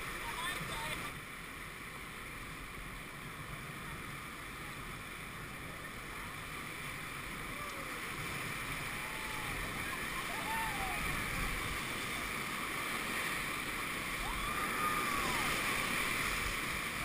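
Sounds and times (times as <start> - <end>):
whitewater river rushing: 0.0 - 17.0.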